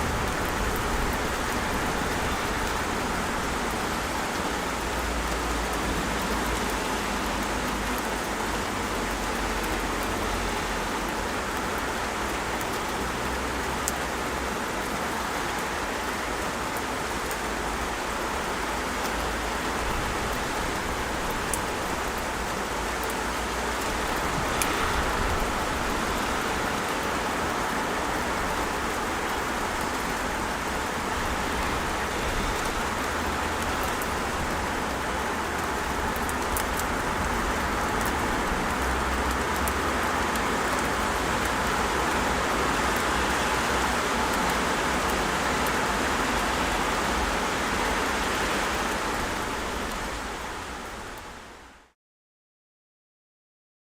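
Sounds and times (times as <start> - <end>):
steady rain pouring: 0.0 - 52.0.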